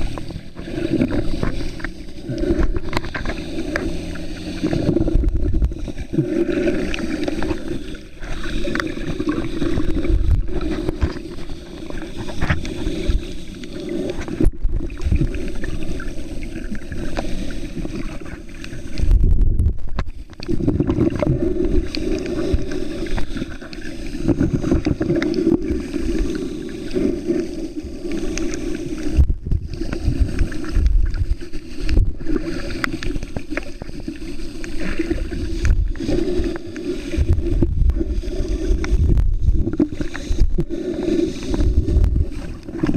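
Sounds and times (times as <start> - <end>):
muffled underwater rumble: 0.0 - 42.9.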